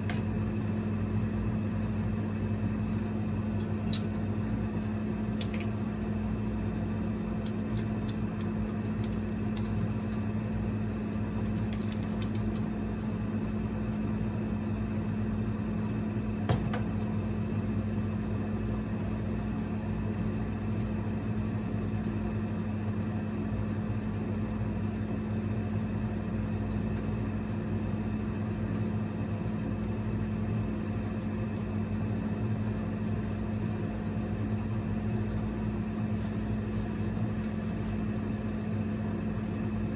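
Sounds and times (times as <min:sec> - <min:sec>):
fan whir: 0:00.0 - 0:39.9
induction cooktop hum: 0:00.0 - 0:39.9.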